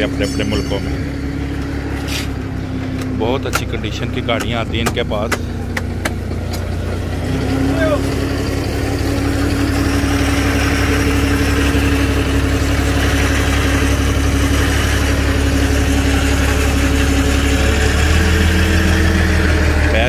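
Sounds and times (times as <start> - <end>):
forklift engine running: 0.0 - 20.0.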